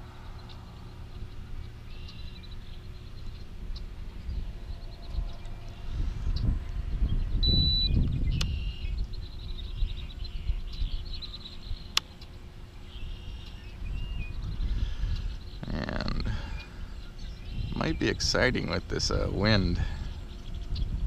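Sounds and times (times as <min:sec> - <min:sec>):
wind buffeting microphone: 0:00.0 - 0:12.0, 0:12.6 - 0:21.0
birds chirping: 0:00.0 - 0:21.0.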